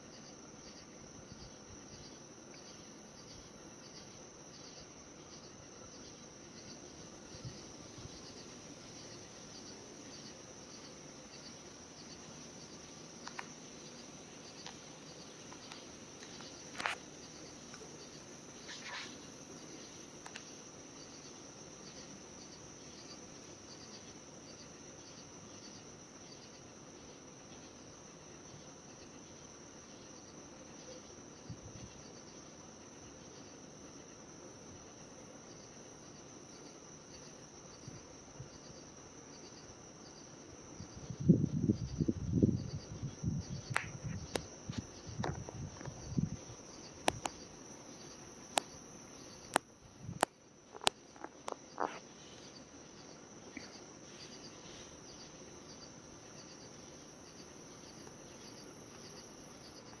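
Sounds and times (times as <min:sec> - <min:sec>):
insects chirping: 0:00.0 - 1:00.0.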